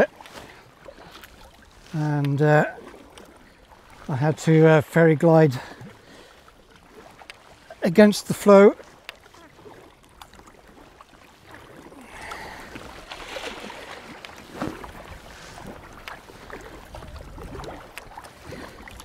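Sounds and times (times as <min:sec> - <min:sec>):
kayak paddle strokes in water: 0:00.0 - 0:19.0
water splashing around kayak: 0:00.0 - 0:19.0.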